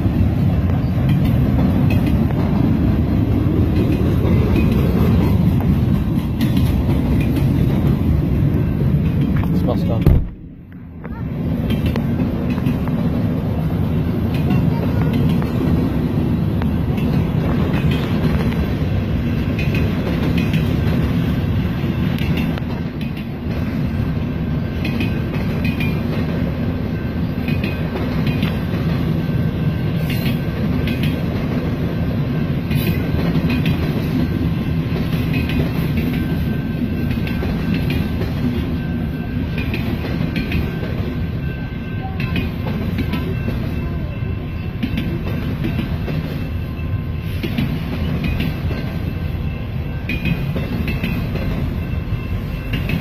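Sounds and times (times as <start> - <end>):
wheels clicking over rail joints: 0.0 - 10.1, 11.0 - 53.0
train wheels rumbling on rail: 0.0 - 53.0.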